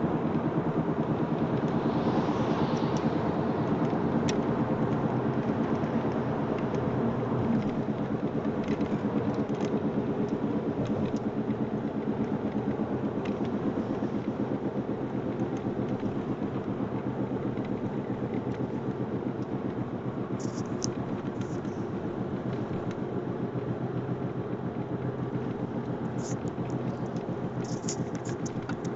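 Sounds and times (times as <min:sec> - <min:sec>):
road and tyre rumble: 0:00.0 - 0:28.9
fast rattling from wheels: 0:00.2 - 0:28.9.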